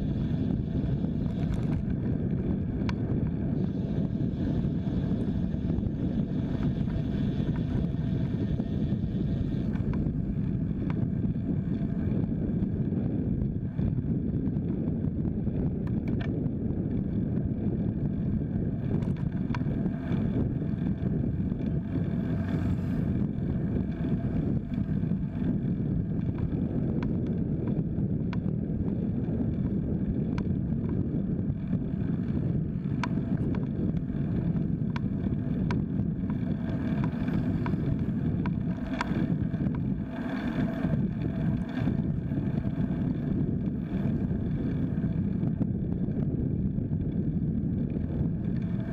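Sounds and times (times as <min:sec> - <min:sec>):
bike tyres rolling on road: 0:00.0 - 0:48.9
wind buffeting microphone: 0:00.0 - 0:48.9.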